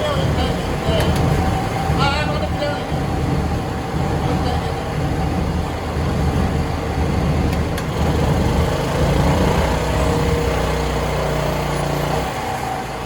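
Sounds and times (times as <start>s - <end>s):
generator engine humming: 0.0s - 13.0s.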